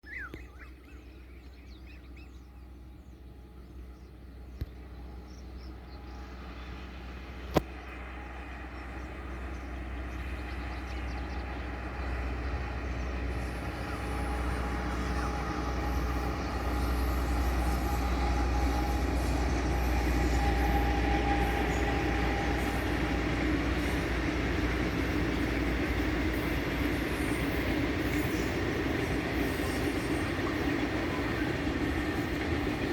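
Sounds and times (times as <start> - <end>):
freight train rumble: 0.0 - 32.9.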